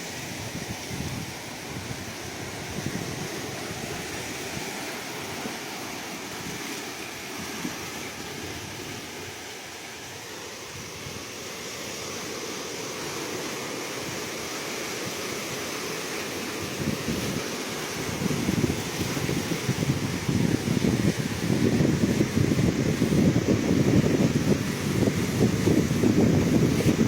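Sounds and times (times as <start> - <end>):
wind on microphone: 0.0 - 9.5, 10.7 - 12.2, 13.9 - 27.0
ocean waves washing ashore: 0.0 - 27.0.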